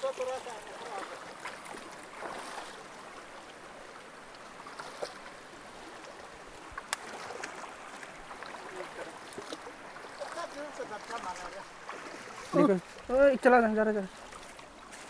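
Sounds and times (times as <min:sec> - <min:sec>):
stream rushing over stones: 0:00.0 - 0:15.0
water sloshing around legs: 0:00.0 - 0:15.0.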